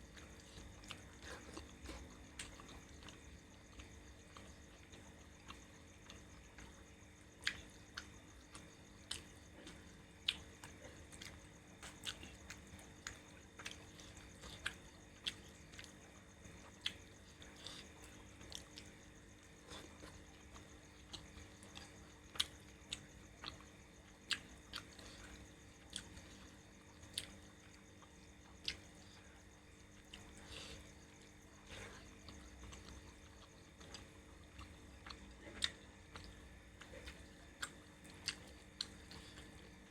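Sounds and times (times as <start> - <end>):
low steady hum: 0.0 - 39.9
person chewing wetly: 0.0 - 39.9.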